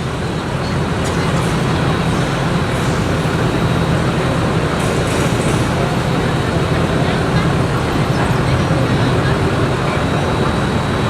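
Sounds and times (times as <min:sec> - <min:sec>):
heavy vehicle engine rumbling: 0:00.0 - 0:11.0
street noise: 0:00.0 - 0:11.0.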